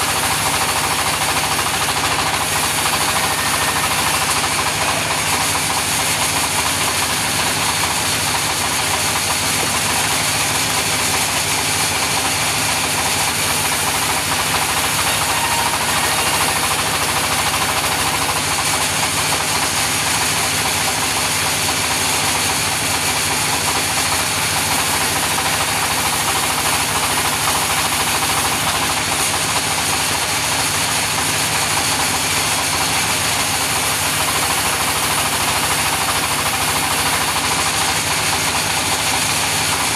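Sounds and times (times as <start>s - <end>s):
engine-driven saw running: 0.0s - 39.9s.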